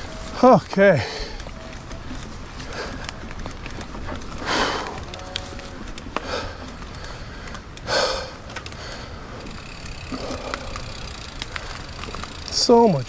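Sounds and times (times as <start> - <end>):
twigs snapping against bike: 1.3 - 13.0.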